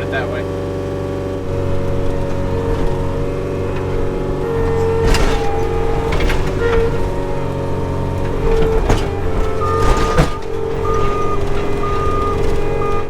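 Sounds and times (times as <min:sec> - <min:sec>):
tractor engine running: 0:00.0 - 0:13.0
sharp knocks and rattles: 0:01.4 - 0:13.0
whining tone: 0:01.4 - 0:13.0.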